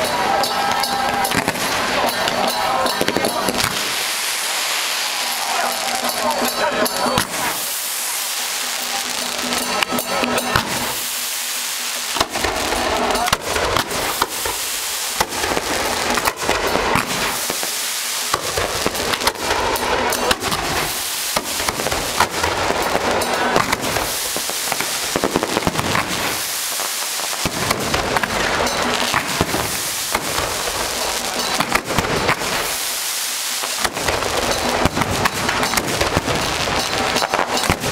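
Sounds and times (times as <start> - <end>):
firecrackers crackling: 0.0 - 37.9.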